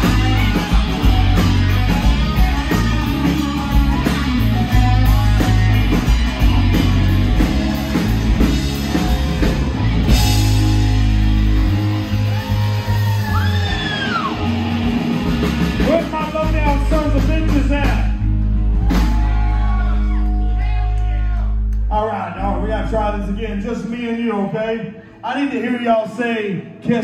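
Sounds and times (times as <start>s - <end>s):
rock band playing live: 0.0s - 27.0s.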